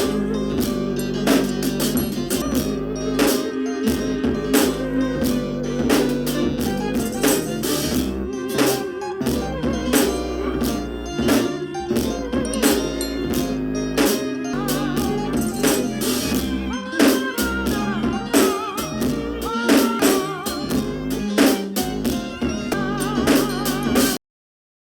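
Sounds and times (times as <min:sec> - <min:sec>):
background music with drums: 0:00.0 - 0:24.2
wavering vocal melody: 0:00.0 - 0:24.2.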